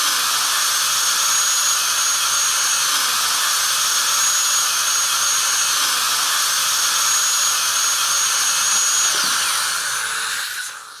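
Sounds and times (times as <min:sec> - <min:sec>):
dental drill whining: 0:00.0 - 0:11.0.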